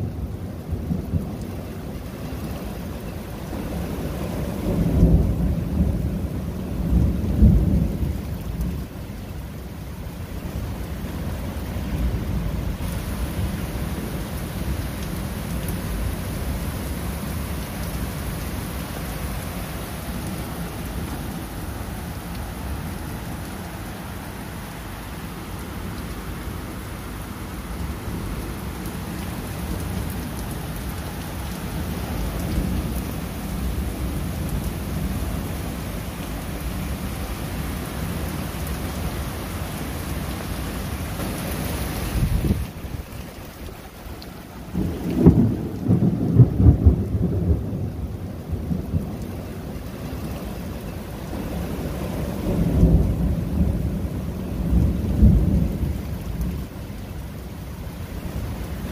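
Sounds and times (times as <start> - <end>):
heavy rain on pavement and puddle: 0.0 - 58.9.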